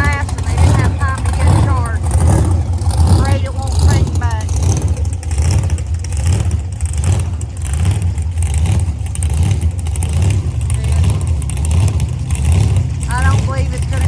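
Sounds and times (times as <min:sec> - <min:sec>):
vehicle engines rumbling: 0:00.0 - 0:14.0.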